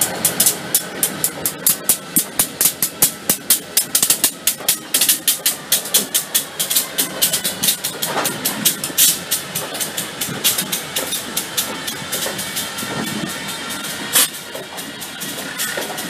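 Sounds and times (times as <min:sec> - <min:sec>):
diesel locomotive engines running: 0:00.0 - 0:16.0
train wheels clacking on rail joints: 0:00.0 - 0:16.0.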